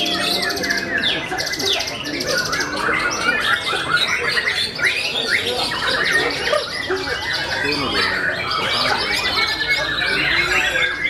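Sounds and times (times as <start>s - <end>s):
bird singing whistles and trills: 0.0s - 11.0s
other birds singing: 0.0s - 11.0s.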